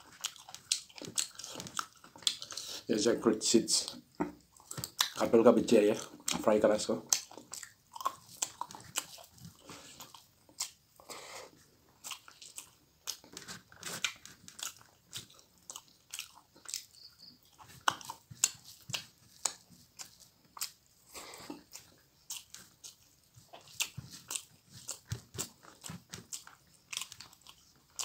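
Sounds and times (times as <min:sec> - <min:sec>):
man chewing with wet mouth clicks: 0:00.0 - 0:02.9, 0:03.8 - 0:05.3, 0:05.9 - 0:28.0.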